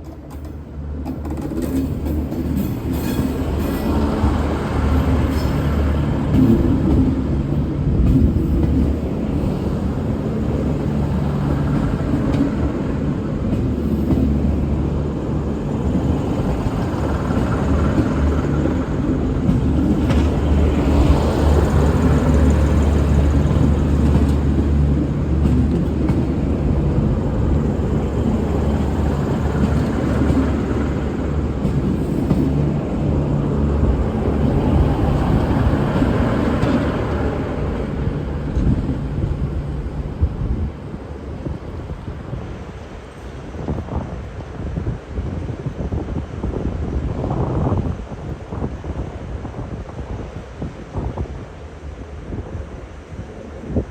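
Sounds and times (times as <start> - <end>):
diesel railcar engine drone: 0.0 - 53.9
rail noise: 0.0 - 53.9.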